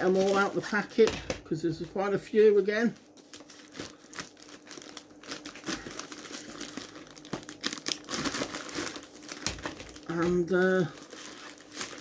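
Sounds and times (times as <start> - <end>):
packaging crinkling and tearing: 0.0 - 1.1, 2.6 - 12.0.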